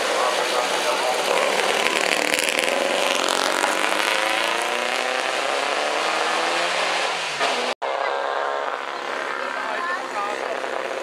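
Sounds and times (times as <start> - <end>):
race car engine running: 0.0 - 11.0.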